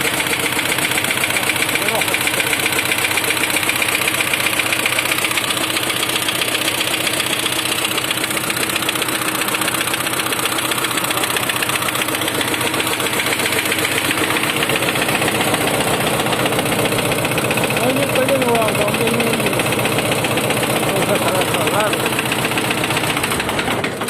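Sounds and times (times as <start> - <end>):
engine idling with rattling knock: 0.0 - 24.0.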